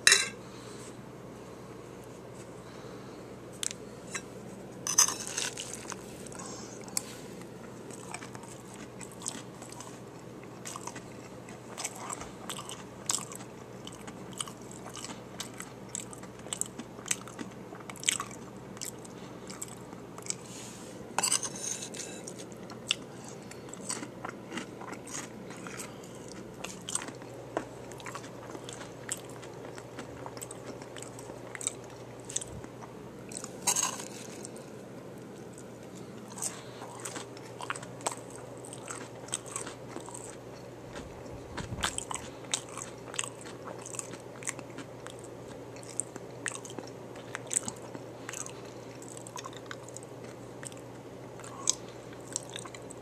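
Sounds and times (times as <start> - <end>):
chewing crunchy taco shell: 4.8 - 20.5, 21.2 - 53.0.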